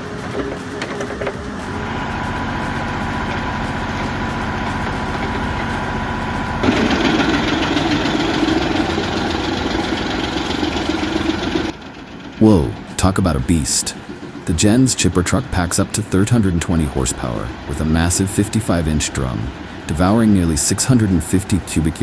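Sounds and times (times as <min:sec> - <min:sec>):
engine running with even pulsing: 0:00.0 - 0:22.0.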